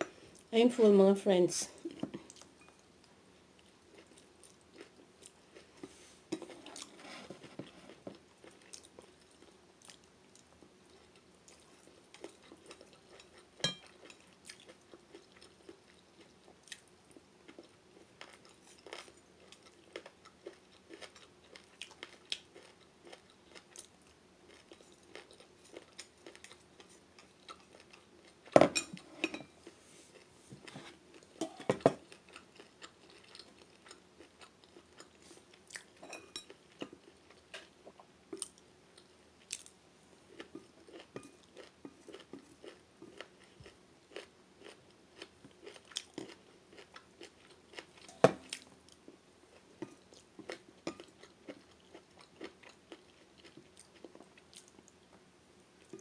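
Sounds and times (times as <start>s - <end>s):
person chewing food: 1.8s - 55.2s.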